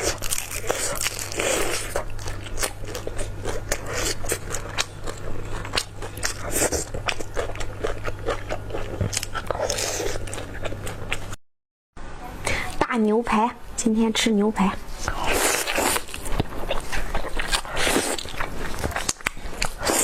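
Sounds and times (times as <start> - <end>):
crunchy chewing: 0.0 - 11.4, 15.0 - 20.0
low electrical hum: 0.0 - 11.4, 12.0 - 20.0.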